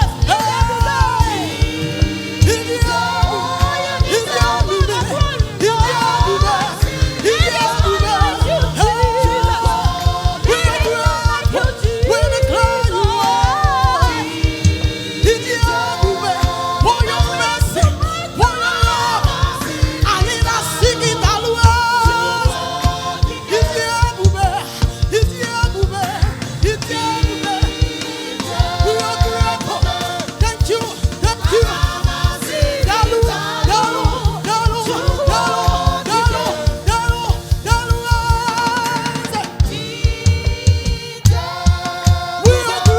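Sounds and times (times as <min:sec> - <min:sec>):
choir singing gospel: 0:00.0 - 0:42.9
steady quick beat: 0:00.0 - 0:42.9.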